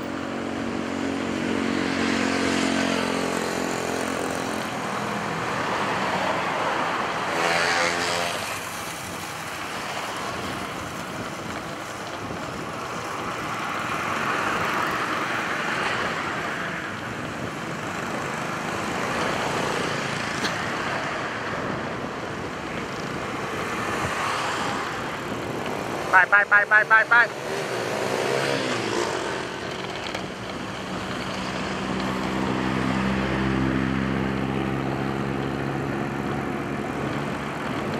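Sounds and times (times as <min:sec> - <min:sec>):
road traffic passing: 0:00.0 - 0:37.9.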